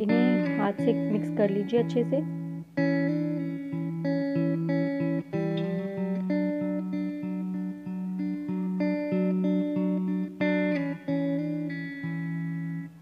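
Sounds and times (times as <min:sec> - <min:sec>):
plucked guitar tune: 0:00.0 - 0:13.0.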